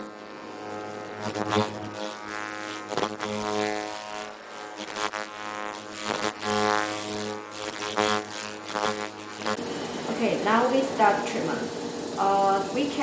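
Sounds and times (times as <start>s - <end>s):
electric device humming: 0.0s - 13.0s.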